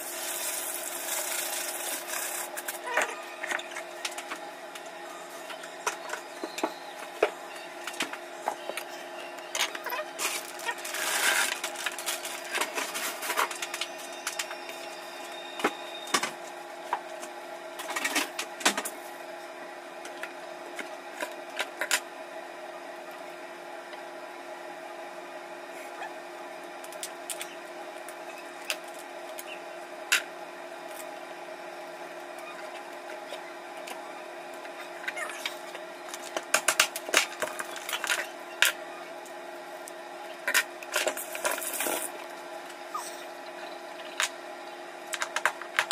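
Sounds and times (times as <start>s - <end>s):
steady hum: 0.0s - 45.9s.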